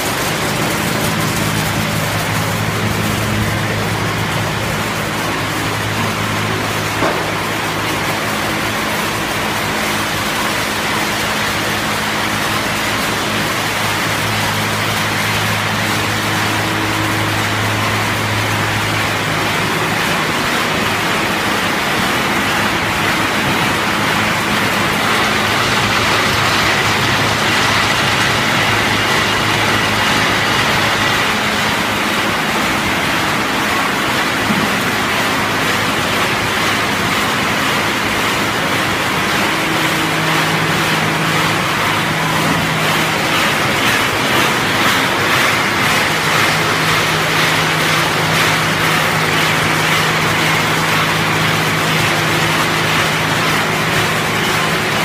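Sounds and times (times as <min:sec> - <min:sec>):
continuous rushing hiss: 0:00.0 - 0:55.0
machine hum: 0:00.0 - 0:55.0.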